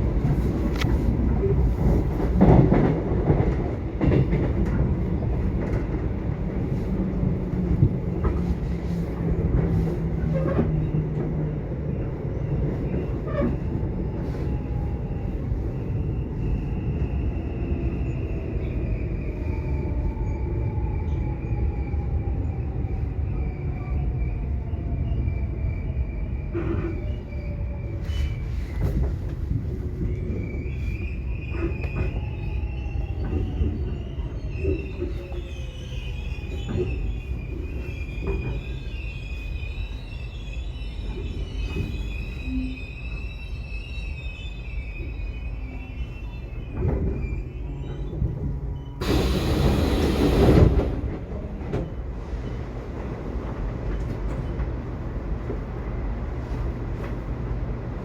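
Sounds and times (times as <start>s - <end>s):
subway train wheels rumbling: 0.0s - 58.0s.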